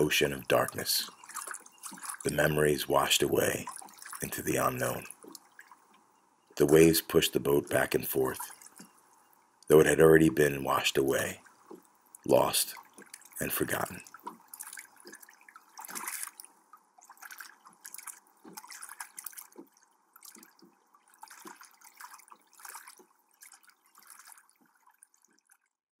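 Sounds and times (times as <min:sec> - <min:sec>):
water splashing and trickling: 0:00.0 - 0:25.8.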